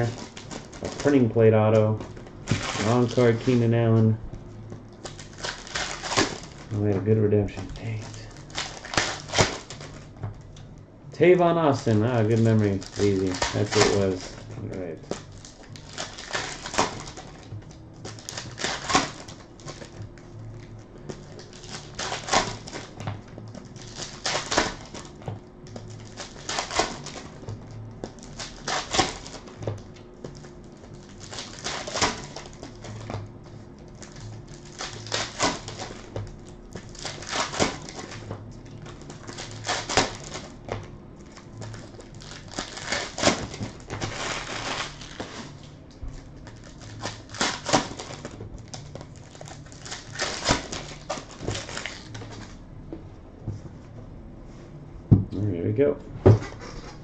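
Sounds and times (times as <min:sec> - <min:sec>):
cards clicking and wrappers rustling: 0:00.0 - 0:04.2, 0:04.9 - 0:52.6.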